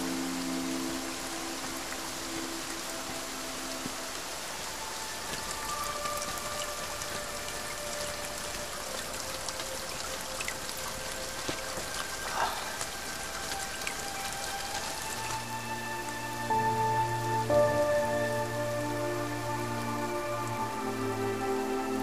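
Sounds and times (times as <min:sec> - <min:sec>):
rain streaming off a roof: 0:00.0 - 0:22.0
water drips: 0:00.0 - 0:22.0.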